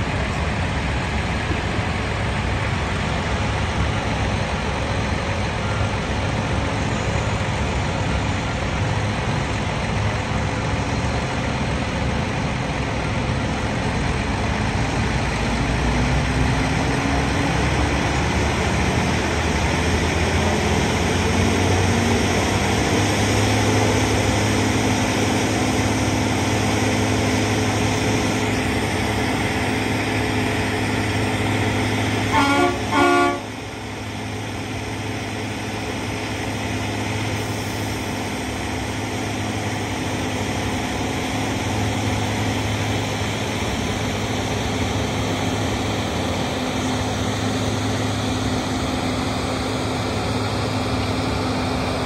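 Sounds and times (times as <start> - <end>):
broad noisy wash: 0.0 - 52.0
heavy engine droning: 0.0 - 52.0.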